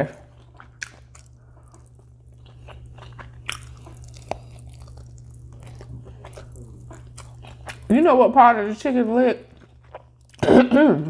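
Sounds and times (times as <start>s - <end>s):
chewing crispy food: 0.2s - 10.4s.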